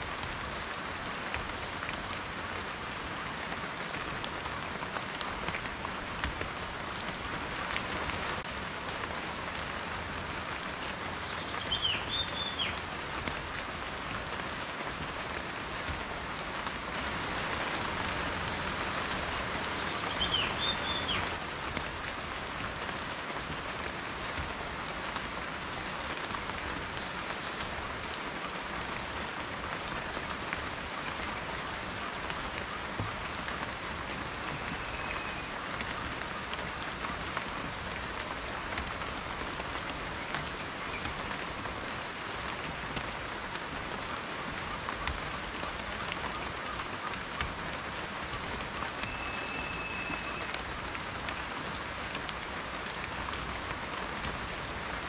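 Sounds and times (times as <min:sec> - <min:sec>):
raindrops ticking on surface: 0:00.0 - 0:55.0
steady rain: 0:00.0 - 0:55.0.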